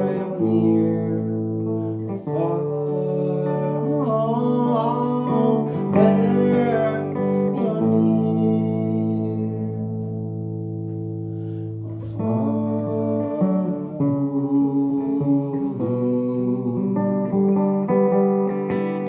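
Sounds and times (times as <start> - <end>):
acoustic guitar chords: 0.0 - 19.0
person singing folk song: 0.0 - 19.0.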